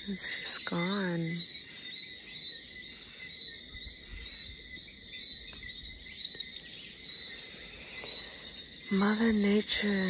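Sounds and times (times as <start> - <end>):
bird chirps: 0.0 - 10.0
insects chorus: 0.0 - 10.0.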